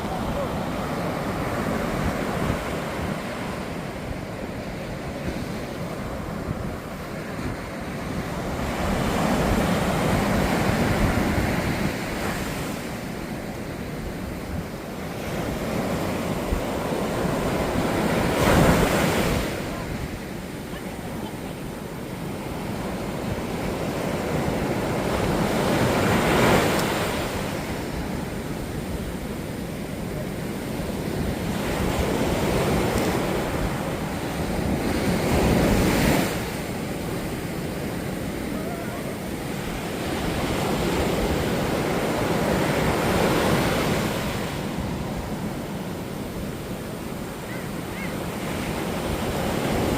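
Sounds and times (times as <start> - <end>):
waves breaking on beach: 0.0 - 49.9.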